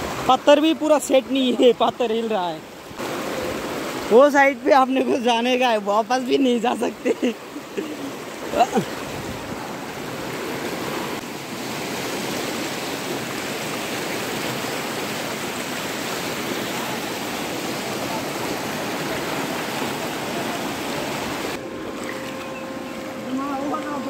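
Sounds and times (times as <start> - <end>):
river rushing over rocks: 0.0 - 24.0.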